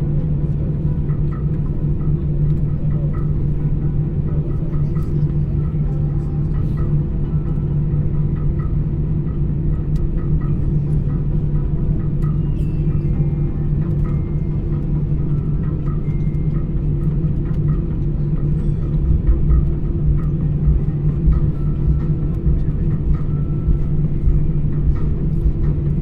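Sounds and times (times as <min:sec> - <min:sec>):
vehicle interior rumble: 0:00.0 - 0:26.0.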